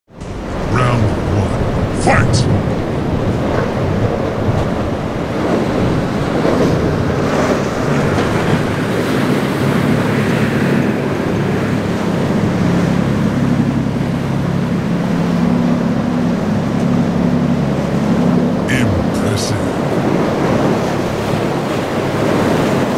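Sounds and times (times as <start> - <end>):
boat engines running hard: 0.1 - 22.9
wind buffeting microphone: 0.2 - 18.7
waves breaking: 0.2 - 22.9.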